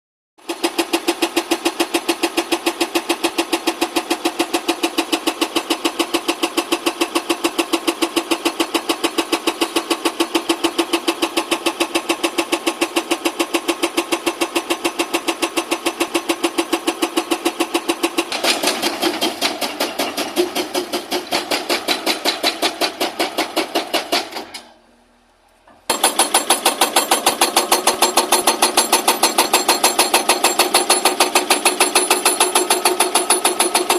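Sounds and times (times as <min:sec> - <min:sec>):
hydraulic rock breaker hammering: 0:00.5 - 0:24.8, 0:25.7 - 0:33.9.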